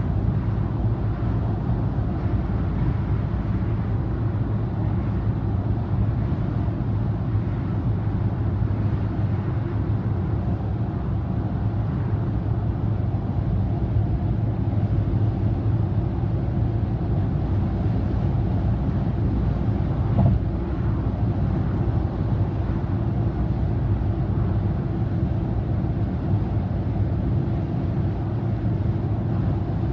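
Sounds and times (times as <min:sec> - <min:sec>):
car road and engine noise: 0:00.0 - 0:29.9.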